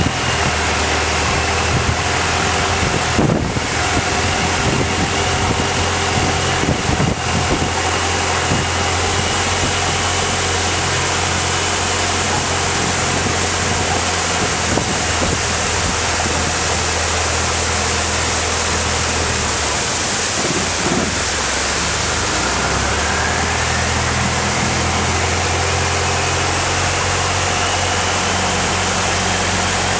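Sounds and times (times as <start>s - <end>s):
boat engine running: 0.0s - 29.9s
water rushing: 0.0s - 29.9s.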